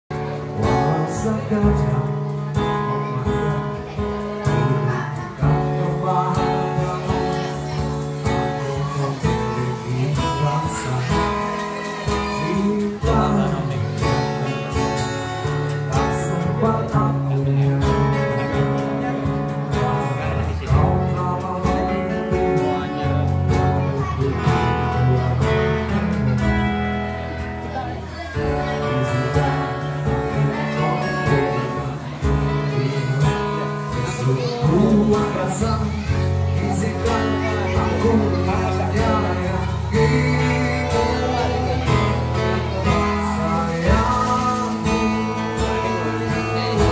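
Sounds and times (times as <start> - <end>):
bass guitar: 0.0 - 46.9
cajon beat: 0.1 - 46.9
man singing: 0.1 - 46.9
strummed acoustic guitars: 0.1 - 46.9.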